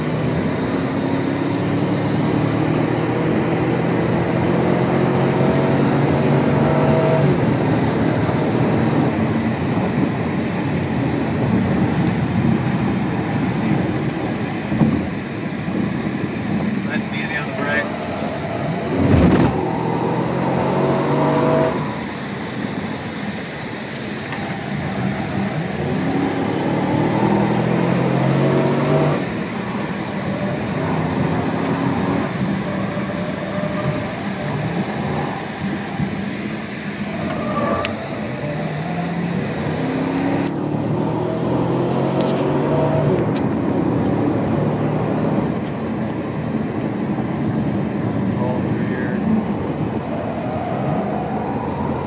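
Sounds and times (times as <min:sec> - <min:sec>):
car engine revving: 0:00.0 - 0:52.0
road noise: 0:00.0 - 0:52.0.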